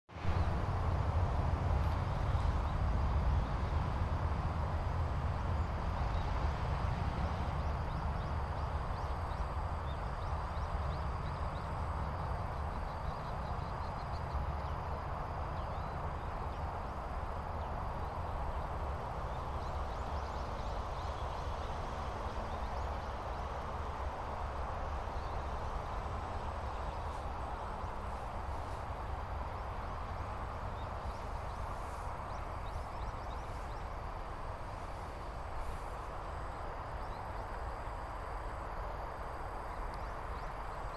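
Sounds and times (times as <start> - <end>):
low wind rumble: 0.1 - 40.9.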